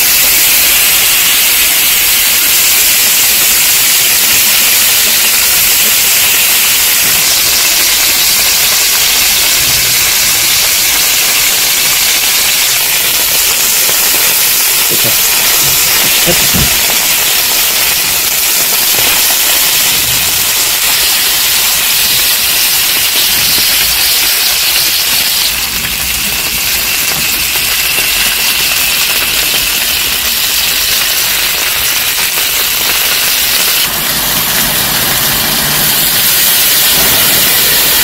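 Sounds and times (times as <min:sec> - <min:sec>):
steak sizzling on a grill pan: 0:00.0 - 0:38.0.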